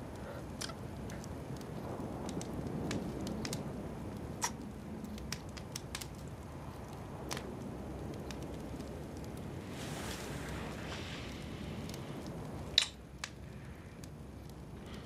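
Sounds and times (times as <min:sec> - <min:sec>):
small clicks and ticks: 0:00.0 - 0:09.5, 0:11.3 - 0:15.0
low background rumble: 0:00.0 - 0:15.0.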